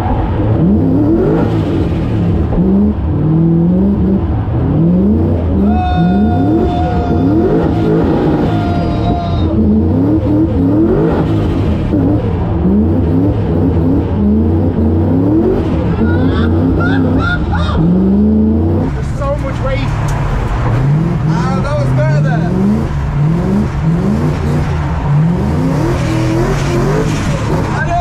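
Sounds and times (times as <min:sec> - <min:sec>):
car engine revving hard: 0:00.0 - 0:28.0.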